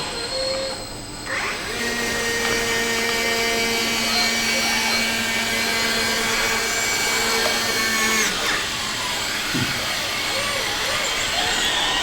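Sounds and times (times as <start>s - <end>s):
small electric motors whirring: 0.0s - 12.0s.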